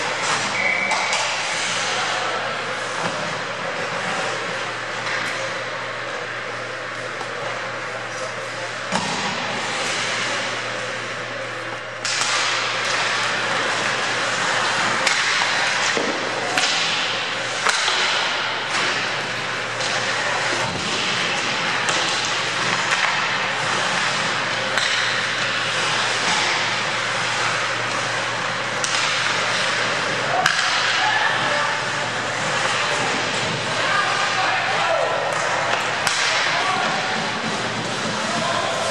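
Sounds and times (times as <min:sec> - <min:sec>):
hockey sticks and puck clacking: 0:00.0 - 0:38.9
skates scraping ice: 0:00.0 - 0:38.9.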